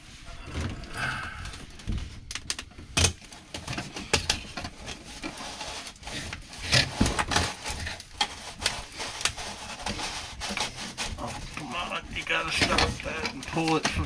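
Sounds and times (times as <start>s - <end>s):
dryer vent duct crinkling: 0.0s - 14.0s.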